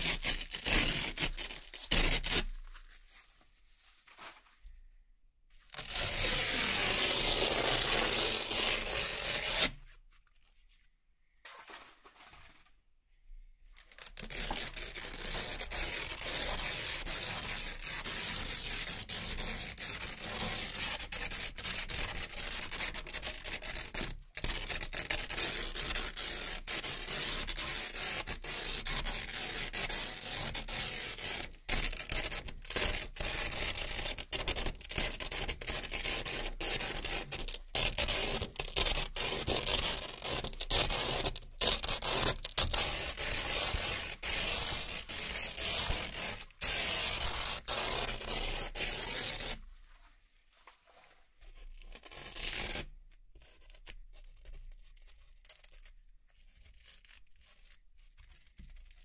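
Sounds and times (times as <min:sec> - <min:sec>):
velcro strips ripping apart: 0:00.0 - 0:03.5, 0:05.7 - 0:09.8, 0:13.8 - 0:49.6, 0:51.7 - 0:59.0.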